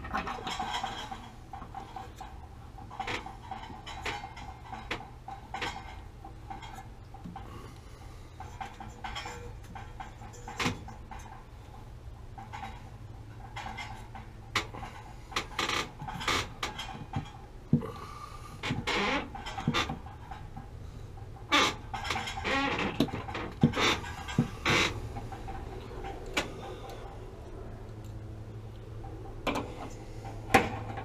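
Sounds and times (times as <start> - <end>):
metal clicks clanks and scrapes: 0.0 - 17.5, 18.6 - 31.0
steady low hum: 0.0 - 31.0.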